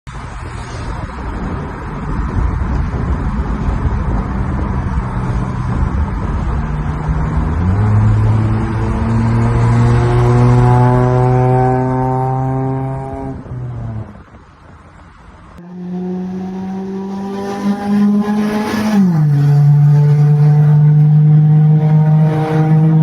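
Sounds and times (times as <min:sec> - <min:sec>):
road and wind noise: 0:00.1 - 0:23.0
car engine running hard: 0:00.2 - 0:23.0.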